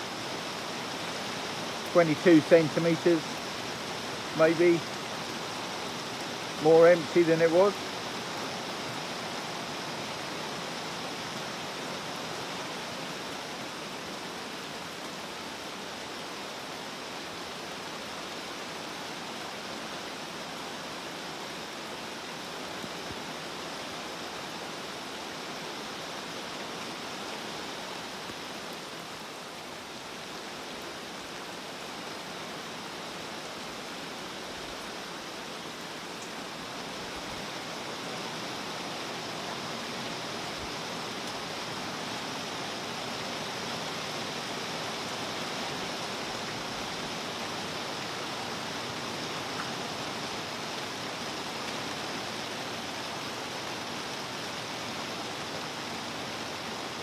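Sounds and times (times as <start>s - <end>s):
rain falling on a pond: 0.0s - 57.0s.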